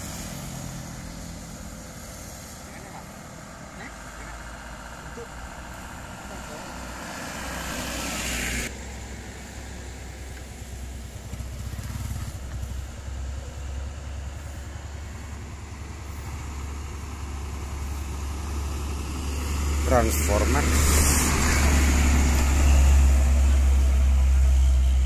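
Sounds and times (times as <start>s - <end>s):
motorcycle passing: 0.0s - 25.0s
truck diesel engine pulling uphill: 0.0s - 25.0s
truck road noise: 0.0s - 25.0s.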